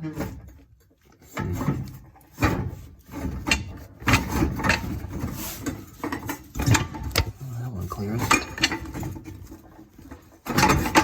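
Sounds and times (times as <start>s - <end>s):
metal pipe scraping and knocking: 0.0s - 11.0s.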